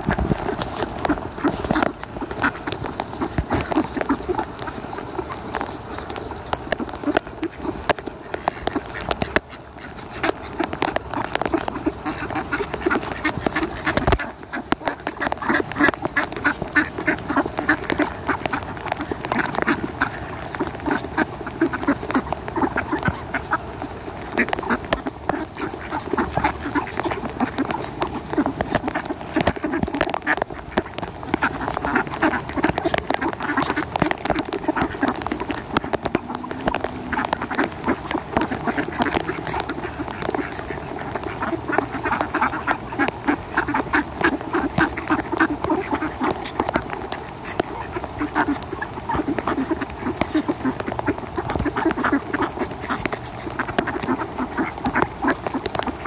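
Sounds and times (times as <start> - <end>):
ducks quacking: 0.0 - 56.0.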